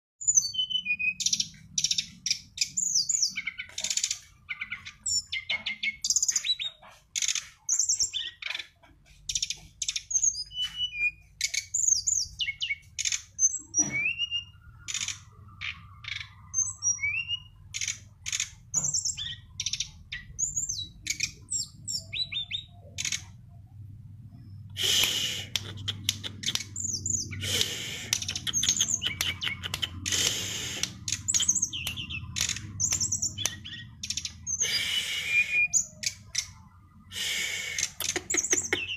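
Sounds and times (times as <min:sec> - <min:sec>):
bird singing chirps and trills: 0:00.2 - 0:38.9.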